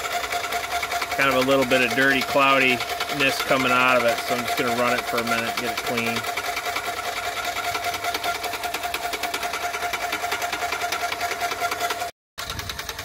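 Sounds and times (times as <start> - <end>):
paint sprayer pump clattering: 0.0 - 13.0.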